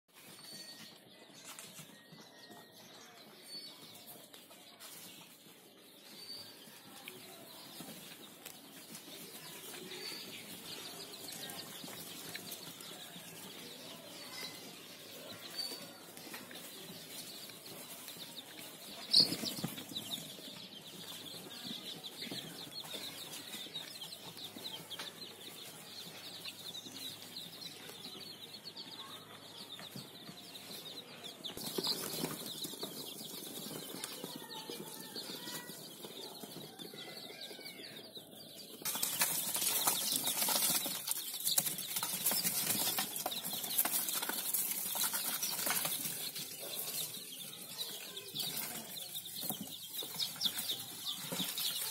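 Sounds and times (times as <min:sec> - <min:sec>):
chicks peeping and clucking: 0:00.1 - 0:51.9
chickens rustling and wing-flapping: 0:04.5 - 0:28.0, 0:31.4 - 0:37.7, 0:38.3 - 0:51.9.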